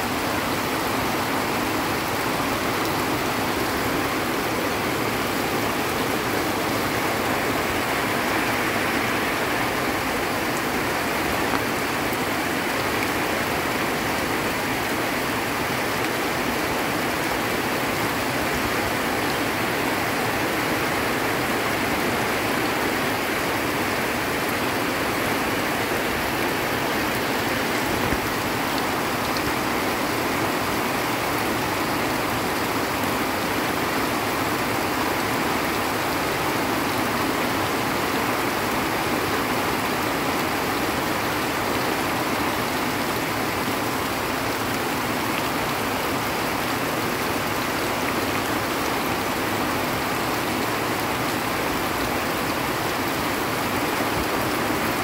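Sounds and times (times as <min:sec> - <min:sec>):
heavy rain on vegetation: 0:00.0 - 0:55.0
runoff water rushing: 0:00.0 - 0:55.0.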